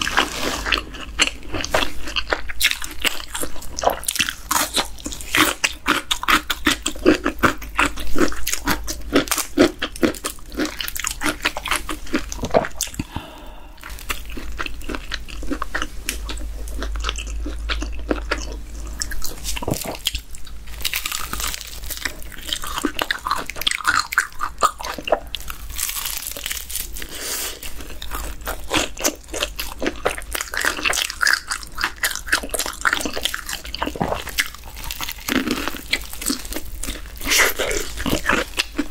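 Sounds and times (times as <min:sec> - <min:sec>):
crunching crispy fried chicken: 0:00.0 - 0:38.9.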